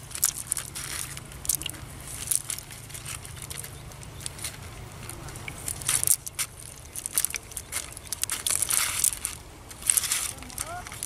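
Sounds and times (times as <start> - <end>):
net mesh crackling and rustling: 0.0 - 11.0
steady low hum: 0.0 - 11.0.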